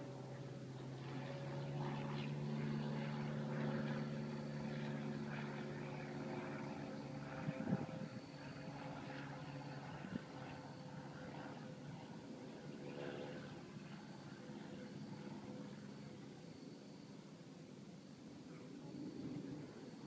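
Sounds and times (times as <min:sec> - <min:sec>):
airplane engine drone: 0:00.0 - 0:20.0.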